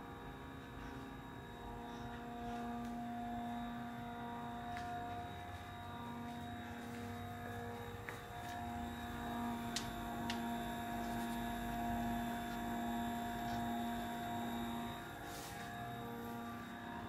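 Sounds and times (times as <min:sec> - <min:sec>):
stepper motor humming: 0:01.5 - 0:17.0.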